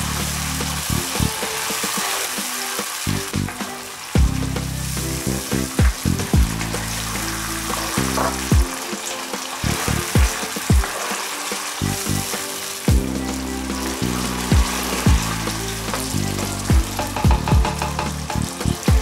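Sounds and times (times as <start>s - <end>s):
sauce sizzling in a frying pan: 0.0s - 17.3s
background music with bass and drums: 0.0s - 19.0s.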